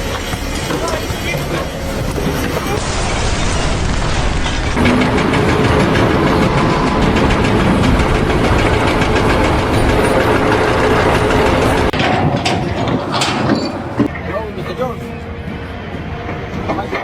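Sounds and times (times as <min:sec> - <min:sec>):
heavy engine running: 0:00.0 - 0:14.1.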